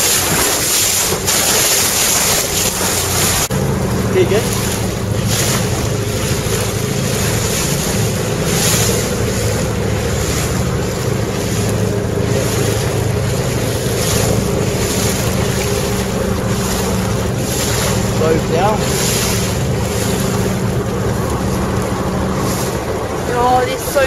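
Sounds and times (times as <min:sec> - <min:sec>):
boat motor running: 0:00.0 - 0:24.0
water rushing and splashing: 0:00.0 - 0:24.0
wind on microphone: 0:00.0 - 0:24.0.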